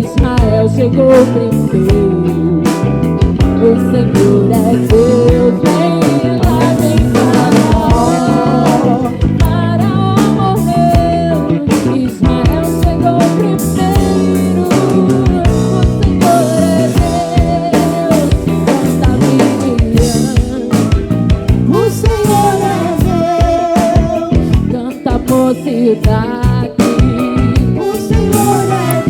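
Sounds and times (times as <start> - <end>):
live band playing soul-gospel: 0.0 - 29.0
sung melody line: 0.0 - 29.0.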